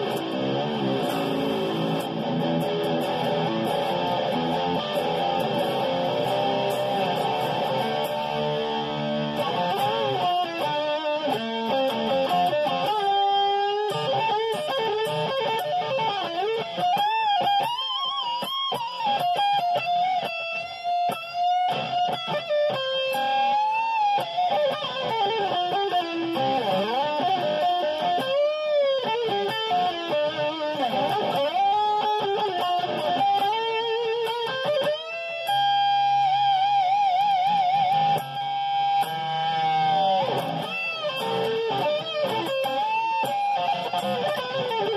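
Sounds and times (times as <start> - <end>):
electric guitar chords: 0.0 - 44.9
electric guitar lead lines: 0.0 - 44.9.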